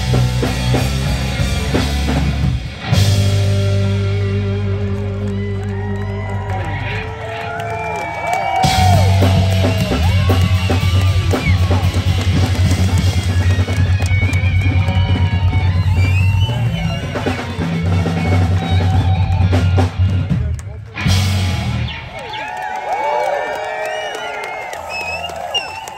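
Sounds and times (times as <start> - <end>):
electric guitar lead: 0.0 - 7.8, 8.6 - 22.4
bass guitar: 0.0 - 22.6
drums: 0.0 - 25.9.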